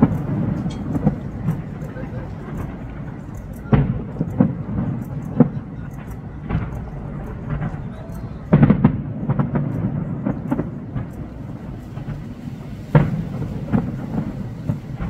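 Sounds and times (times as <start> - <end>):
distant fireworks bangs: 0.0 - 15.0.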